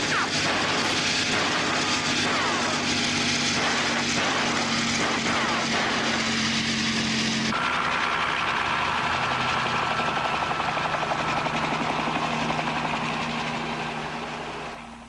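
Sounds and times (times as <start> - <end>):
aircraft engine running: 0.0 - 15.0.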